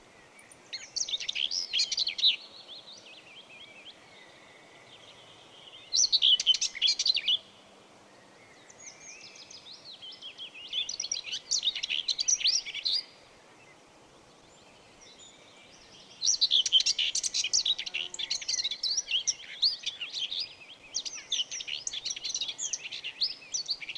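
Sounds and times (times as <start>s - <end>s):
songbirds chirping and twittering: 0.0s - 23.9s.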